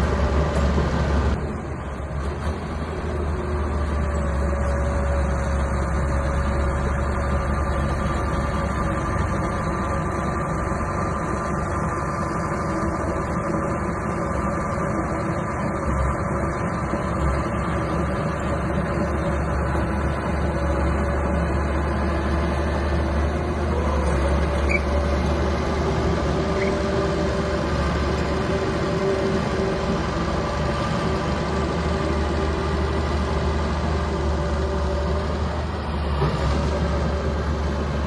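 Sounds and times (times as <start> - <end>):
bulldozer diesel engine rumbling: 0.0 - 38.0.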